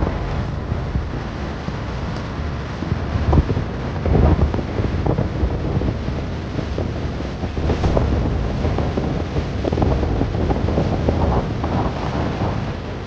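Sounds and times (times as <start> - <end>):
surf rushing: 0.0 - 13.0
wind buffeting microphone: 0.0 - 13.0.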